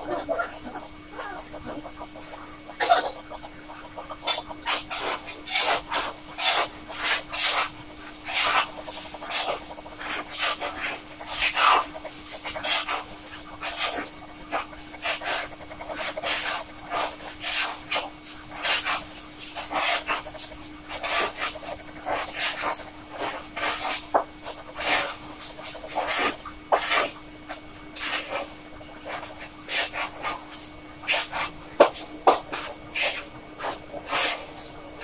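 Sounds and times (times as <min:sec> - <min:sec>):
pen nib scratching paper: 0:00.0 - 0:34.8.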